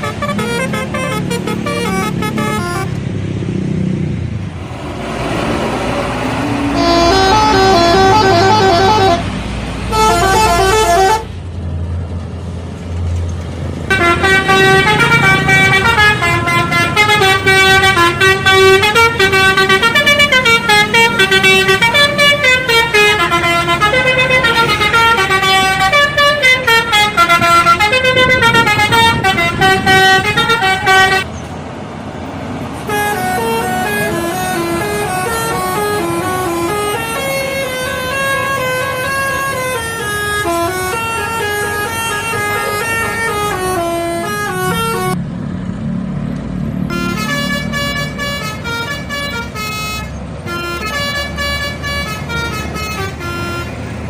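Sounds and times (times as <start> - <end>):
bus horn playing melodic runs: 0.0 - 3.0, 6.3 - 11.4, 13.9 - 31.3, 32.9 - 45.2, 46.9 - 54.0.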